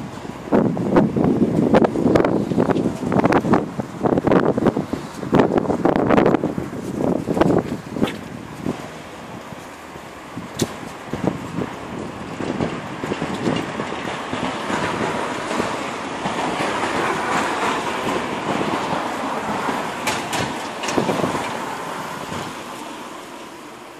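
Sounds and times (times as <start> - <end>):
wind buffeting microphone: 0.0 - 23.3
passing traffic: 0.0 - 23.9.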